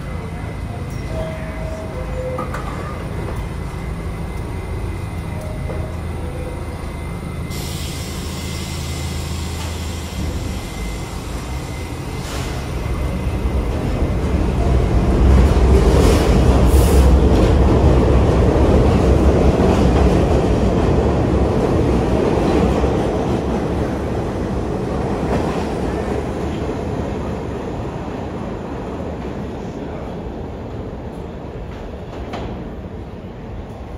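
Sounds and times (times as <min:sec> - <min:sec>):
subway train rumbling: 0:00.0 - 0:33.9.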